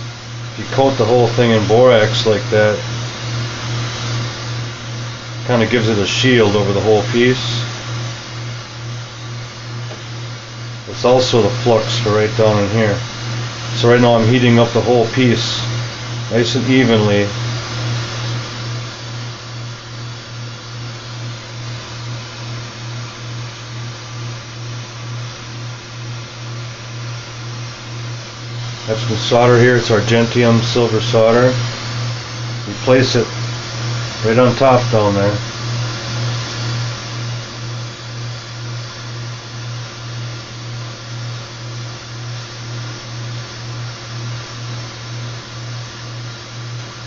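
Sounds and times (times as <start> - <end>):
gas torch flame hissing: 0.0 - 47.0
low pulsing hum: 0.0 - 47.0.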